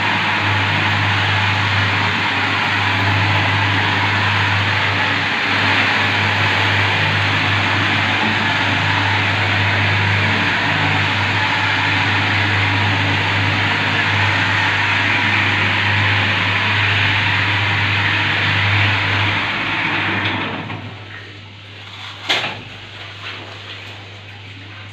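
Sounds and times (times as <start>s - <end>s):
polishing machine grinding tile: 0.0s - 20.8s.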